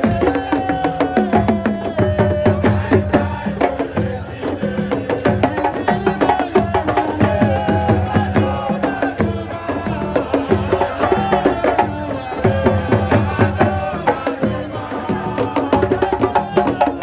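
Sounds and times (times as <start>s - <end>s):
fast hand drumming: 0.0s - 17.0s.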